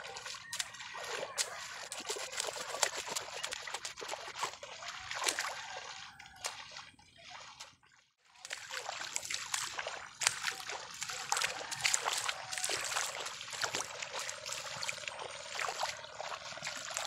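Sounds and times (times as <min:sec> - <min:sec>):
footsteps splashing through water: 0:00.0 - 0:17.0.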